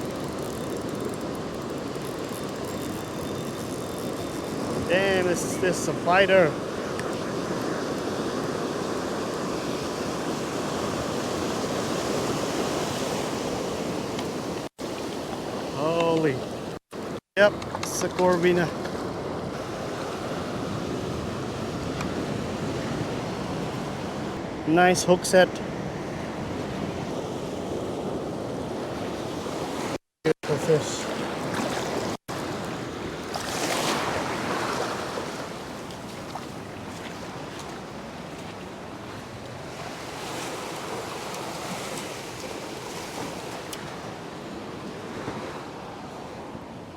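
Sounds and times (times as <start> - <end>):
ocean surf washing ashore: 0.0 - 46.9.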